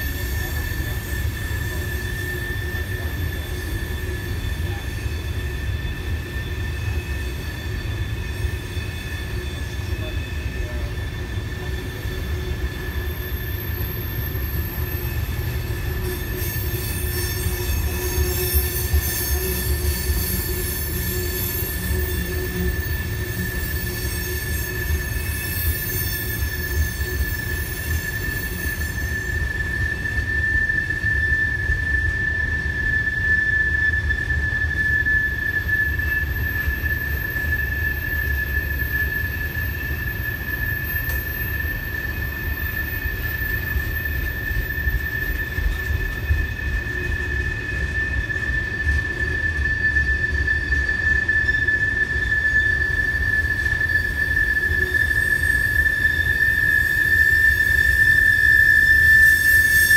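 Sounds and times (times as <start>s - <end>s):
train rumble: 0.0s - 59.9s
train wheels squealing on rail: 0.0s - 59.9s.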